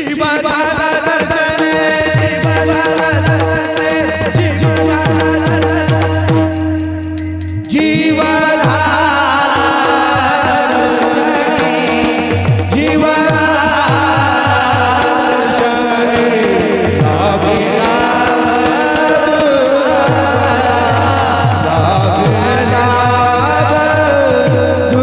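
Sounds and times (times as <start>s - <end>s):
devotional singing: 0.0s - 25.0s.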